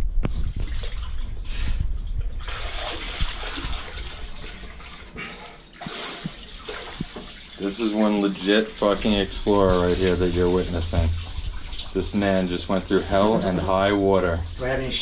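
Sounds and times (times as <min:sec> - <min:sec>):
person wading through water: 0:00.5 - 0:15.0.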